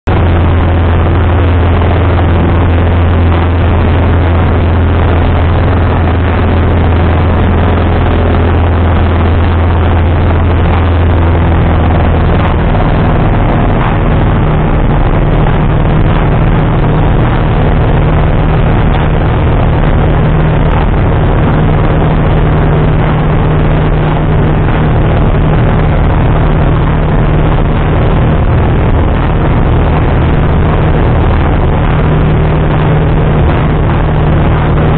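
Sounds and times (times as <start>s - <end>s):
light aircraft engine droning: 0.1s - 34.9s.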